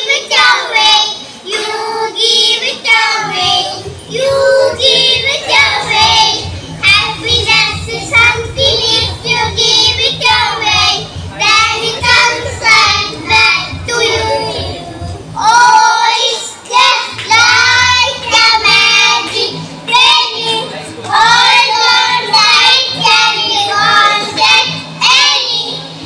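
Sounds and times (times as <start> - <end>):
boys singing through pa: 0.0 - 26.0
low rhythmic beat: 1.6 - 25.0.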